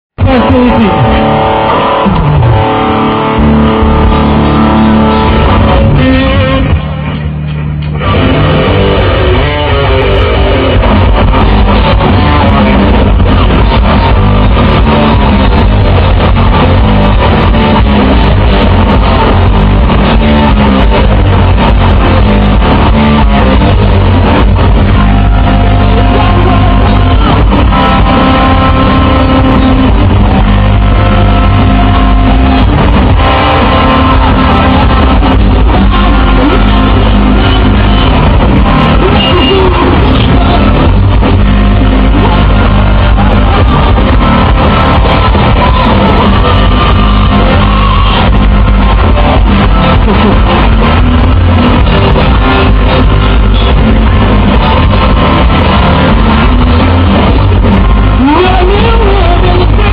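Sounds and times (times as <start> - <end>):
electric guitars: 0.0 - 59.9
rock band playing live: 0.2 - 59.9.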